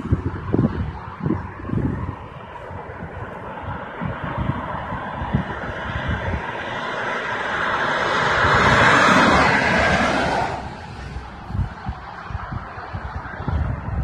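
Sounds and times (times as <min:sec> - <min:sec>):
cars passing on motorway: 0:00.0 - 0:14.0
wind buffeting microphone: 0:00.0 - 0:14.0.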